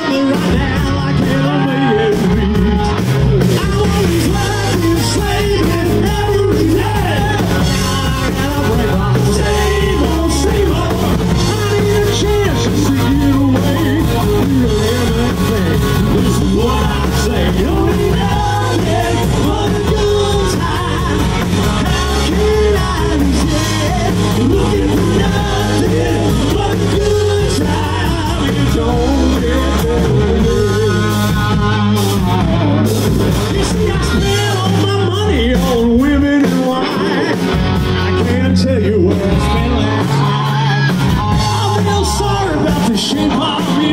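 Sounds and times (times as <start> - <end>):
bass guitar: 0.0 - 43.9
distorted electric guitar: 0.0 - 43.9
drums: 0.0 - 43.9
lead singer: 0.0 - 43.9.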